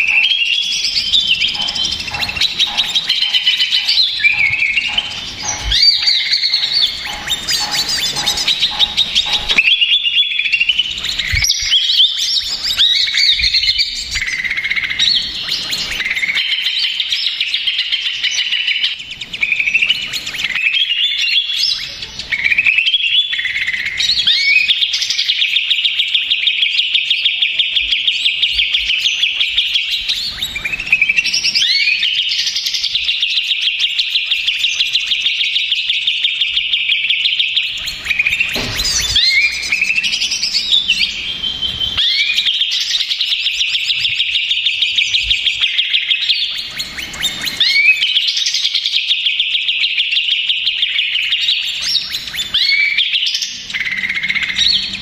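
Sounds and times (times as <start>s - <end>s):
bird singing with chirps and trills: 0.0s - 55.0s.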